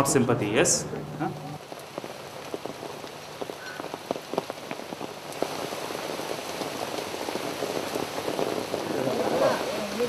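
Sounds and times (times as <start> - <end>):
rain falling: 0.0 - 10.0
raindrops striking close by: 0.0 - 10.0.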